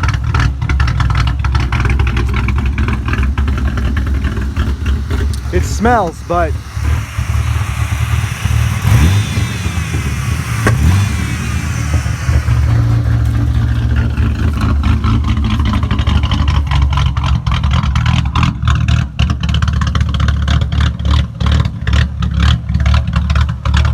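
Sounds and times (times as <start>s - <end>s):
car engine idling roughly: 0.0s - 23.9s.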